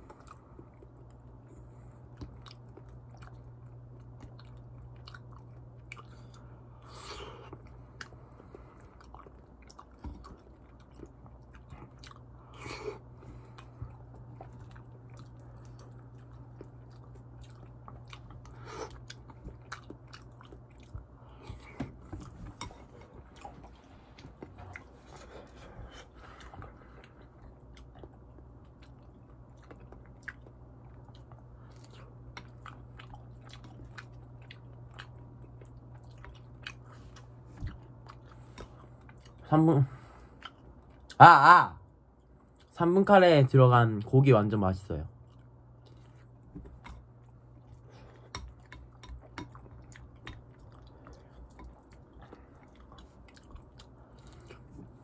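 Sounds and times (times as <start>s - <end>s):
steady low hum: 0.0s - 55.0s
person chewing: 0.1s - 39.4s, 40.3s - 41.2s, 45.2s - 55.0s.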